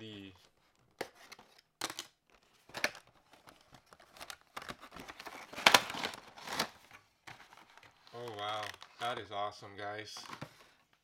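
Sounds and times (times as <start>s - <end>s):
cardboard and plastic rustling: 0.4s - 9.4s, 10.0s - 11.0s.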